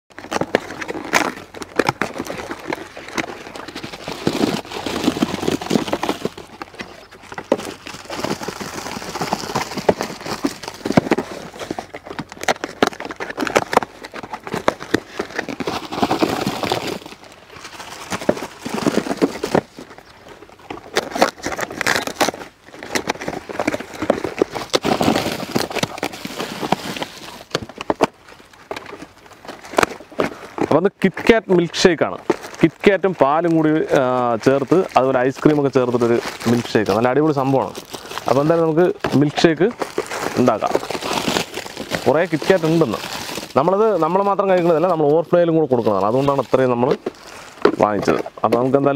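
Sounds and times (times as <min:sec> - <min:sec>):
cardboard cartons clicking and tapping: 0:00.1 - 0:48.9
plastic wrappers crinkling: 0:00.1 - 0:48.9.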